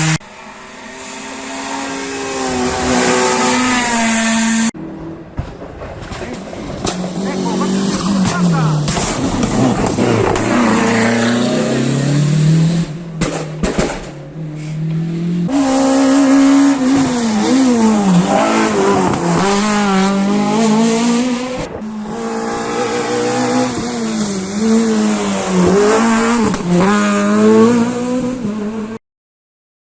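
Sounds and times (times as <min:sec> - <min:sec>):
rally car engines revving: 0:00.0 - 0:29.0.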